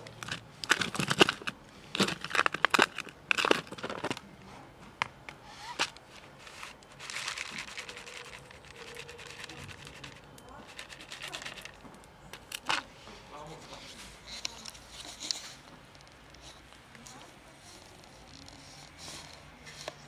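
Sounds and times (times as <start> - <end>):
plastic crinkling: 0.0 - 4.2, 5.6 - 12.9, 13.7 - 20.0.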